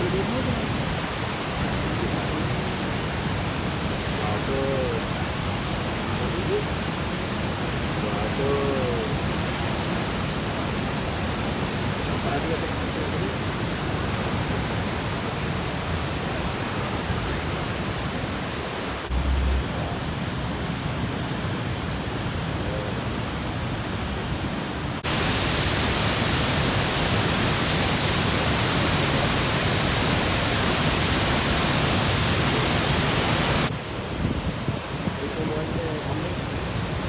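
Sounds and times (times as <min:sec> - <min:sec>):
waterfall roaring: 0:00.0 - 0:34.1.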